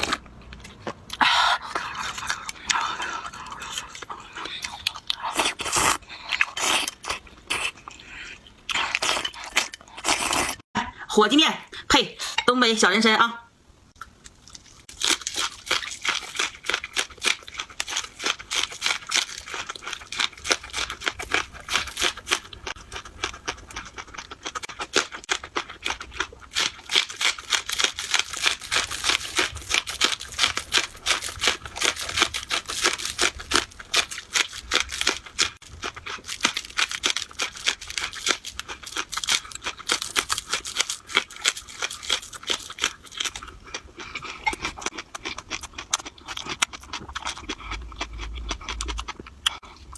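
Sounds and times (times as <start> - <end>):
person chewing noodles: 0.0 - 10.6, 14.0 - 49.9.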